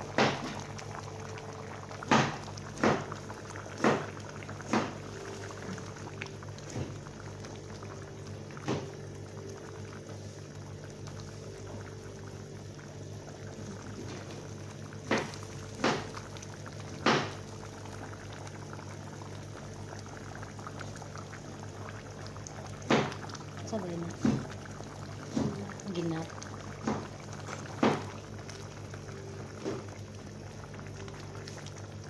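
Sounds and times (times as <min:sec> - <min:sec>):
curry bubbling in a pot: 0:00.0 - 0:32.0.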